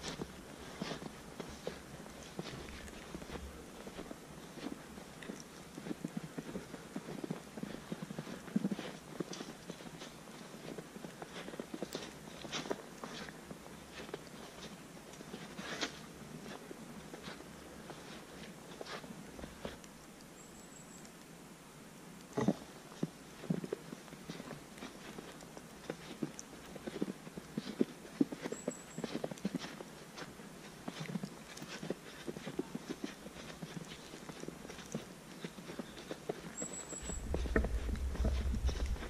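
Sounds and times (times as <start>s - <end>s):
footsteps crunching through snow: 0.0s - 19.8s, 24.3s - 39.0s.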